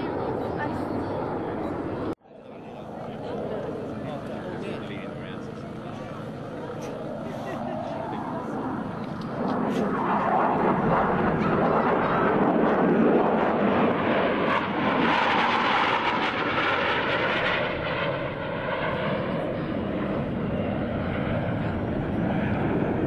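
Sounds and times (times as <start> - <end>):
jet engines roaring overhead: 0.0 - 23.0.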